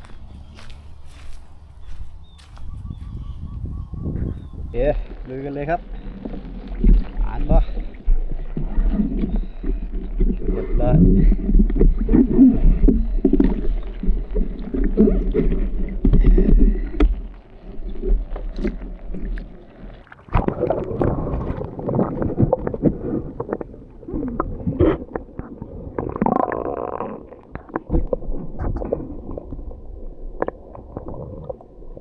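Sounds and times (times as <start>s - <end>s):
bubbly underwater noise: 3.1s - 32.0s
water sloshing and gurgling: 4.0s - 32.0s.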